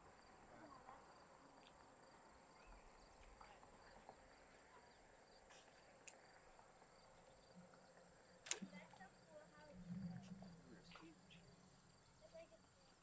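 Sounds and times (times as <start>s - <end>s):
insect chorus buzzing and chirping: 0.0s - 13.0s.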